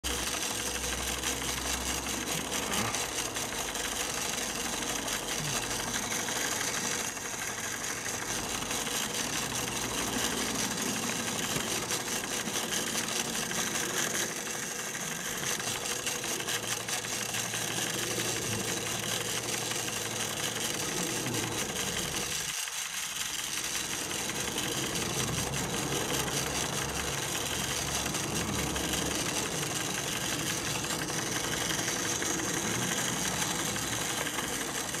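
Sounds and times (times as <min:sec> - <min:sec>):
toy steam engine clattering: 0:00.0 - 0:35.0.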